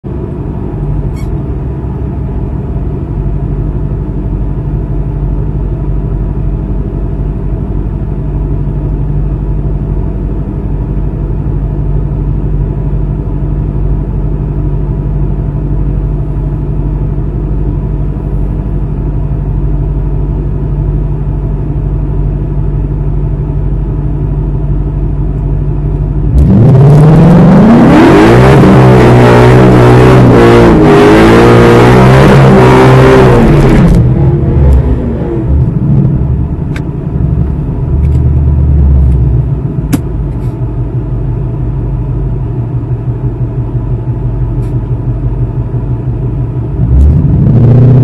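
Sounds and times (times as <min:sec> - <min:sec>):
car engine idling: 0:00.0 - 0:26.9, 0:32.7 - 0:48.0.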